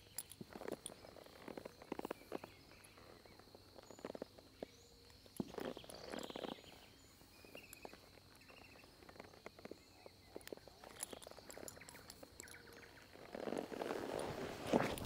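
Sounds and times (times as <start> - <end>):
high insect hum: 0.0 - 15.0
horse tack clicks and rustles: 0.0 - 15.0.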